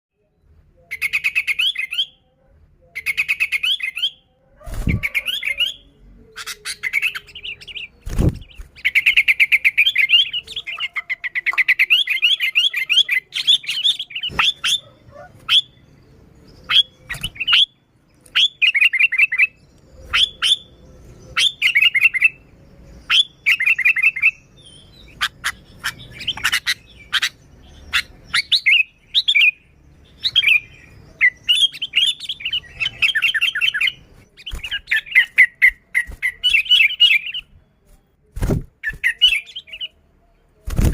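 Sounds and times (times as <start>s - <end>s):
bird chirping: 0.2s - 40.9s.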